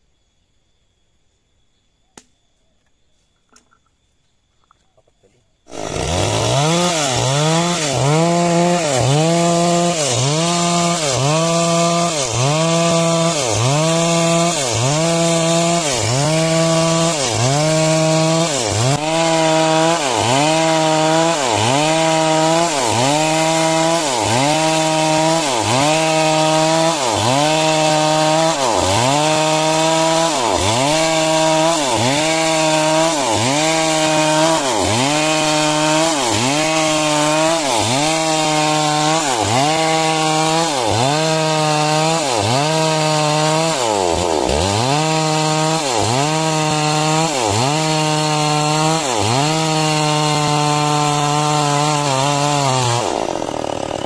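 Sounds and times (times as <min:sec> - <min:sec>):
chainsaw cutting lumber: 0:05.7 - 0:54.0.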